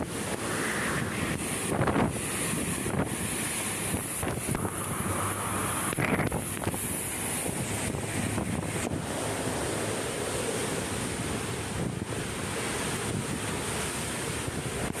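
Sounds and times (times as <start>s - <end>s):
strong wind gusting: 0.0s - 15.0s
wind buffeting microphone: 0.0s - 15.0s.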